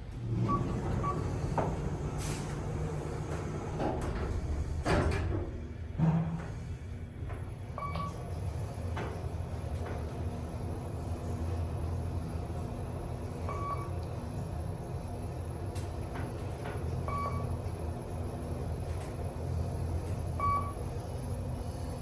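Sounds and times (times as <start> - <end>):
elevator low hum: 0.0 - 22.0.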